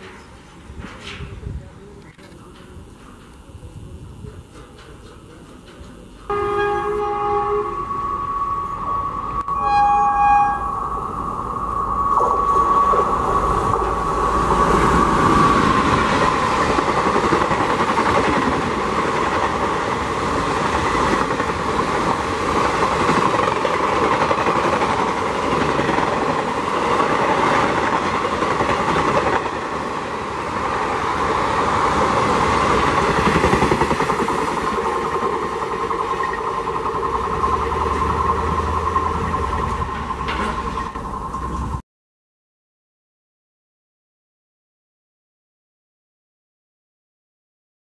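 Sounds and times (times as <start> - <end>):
train coaches rattling over rails: 0.0 - 7.9, 9.6 - 41.8.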